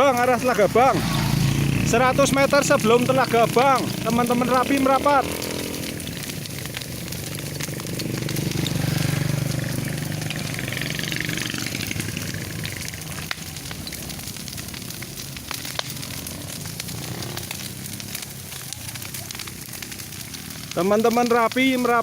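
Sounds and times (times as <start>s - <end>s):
engine humming: 0.0s - 21.2s
sharp crackles: 0.0s - 22.0s.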